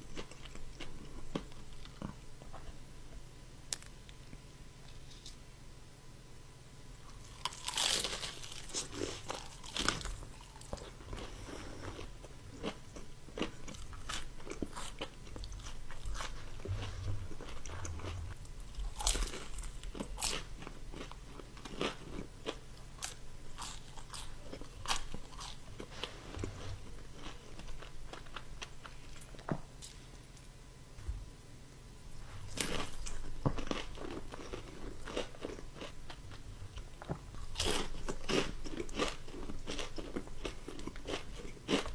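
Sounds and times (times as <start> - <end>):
crunchy food being chewed: 0.0 - 2.8, 7.0 - 30.4, 32.2 - 41.9.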